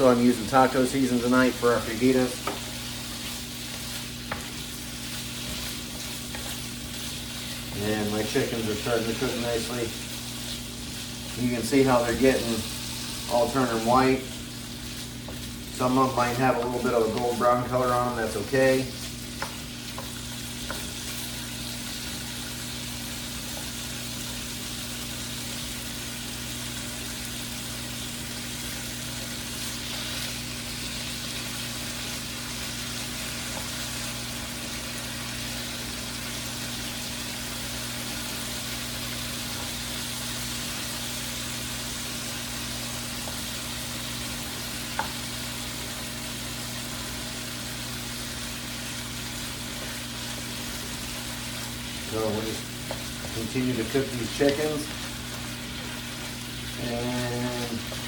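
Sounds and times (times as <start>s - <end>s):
chicken sizzling in a frying pan: 0.0s - 58.0s.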